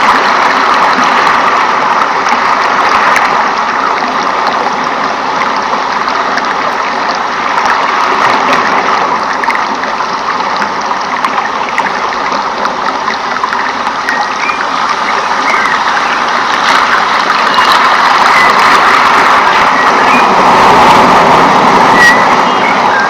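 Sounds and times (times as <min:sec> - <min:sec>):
small drips and ticks: 0:00.0 - 0:20.2
flowing water: 0:00.0 - 0:23.0.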